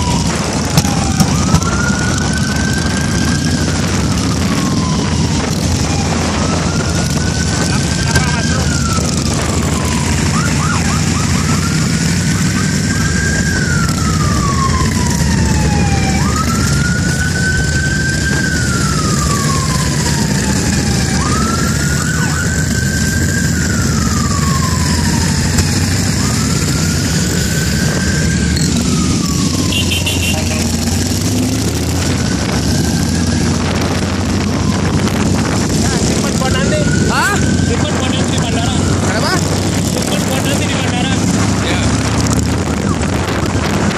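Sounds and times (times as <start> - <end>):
motorcycle engines rumbling: 0.0 - 43.9
wailing siren: 0.0 - 43.9.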